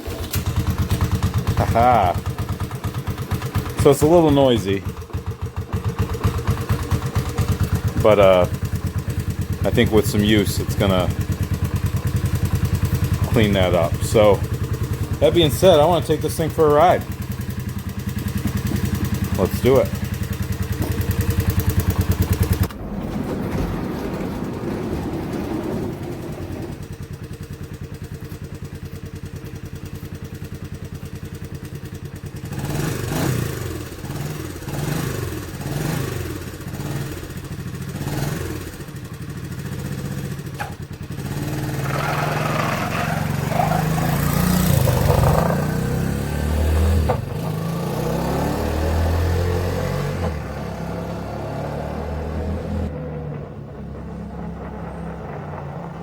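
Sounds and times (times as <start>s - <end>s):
engine running while ridden: 0.0s - 56.0s.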